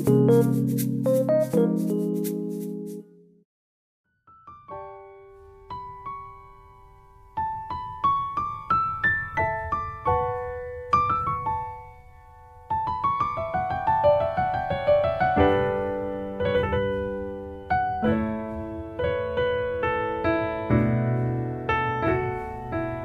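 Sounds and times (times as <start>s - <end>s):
piano music: 0.0s - 3.4s, 4.1s - 23.0s.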